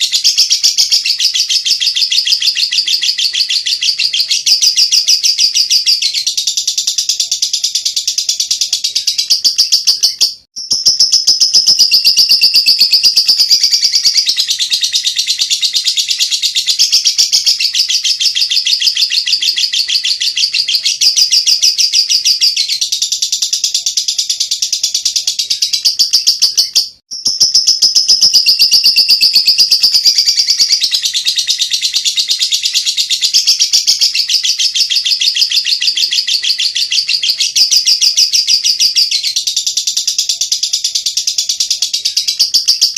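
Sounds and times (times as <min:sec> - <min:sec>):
bird chattering high-pitched: 0:00.0 - 0:42.9.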